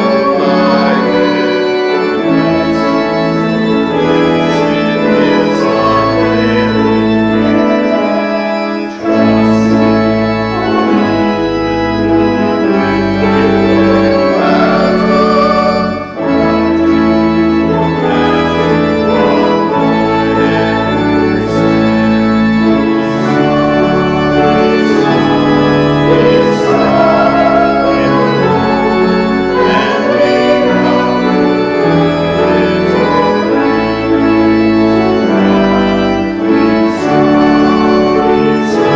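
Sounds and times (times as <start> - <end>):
church organ playing chords: 0.0 - 38.9.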